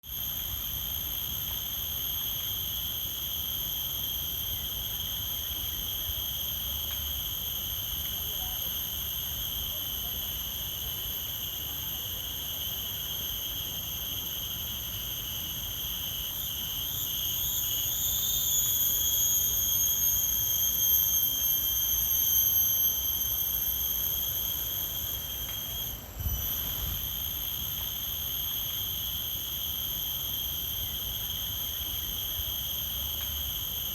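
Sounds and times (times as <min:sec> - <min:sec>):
insects buzzing: 0:00.1 - 0:33.9.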